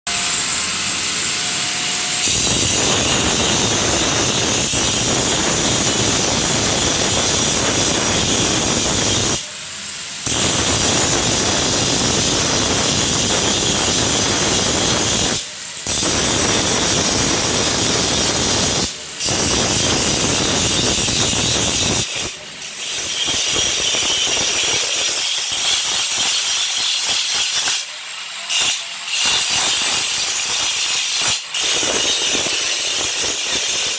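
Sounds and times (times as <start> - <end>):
angle grinder grinding steel: 0.1 - 33.9.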